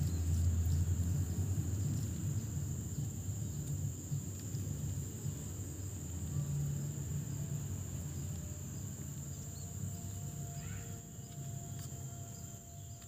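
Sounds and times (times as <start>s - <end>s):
low rumble: 0.0s - 10.5s
cricket trilling: 0.0s - 13.0s.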